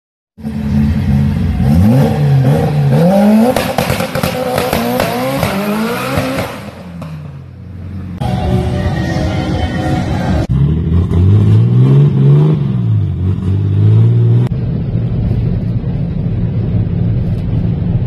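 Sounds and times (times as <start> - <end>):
car engine revving: 0.4 - 8.8, 9.9 - 18.0.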